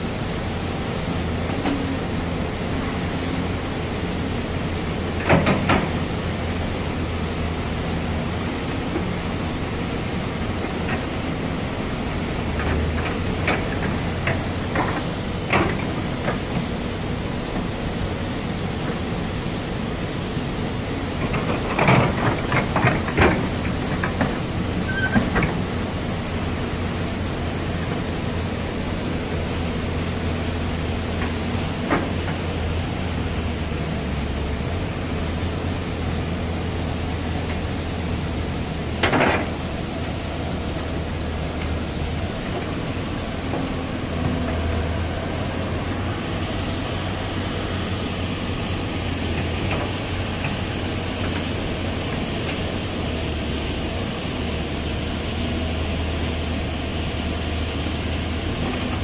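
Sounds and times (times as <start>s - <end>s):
diesel excavator engine running: 0.0s - 59.0s.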